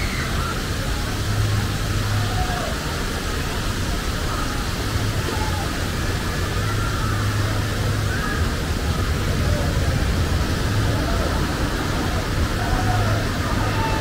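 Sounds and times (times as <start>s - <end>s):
low rumble with hiss: 0.0s - 14.0s.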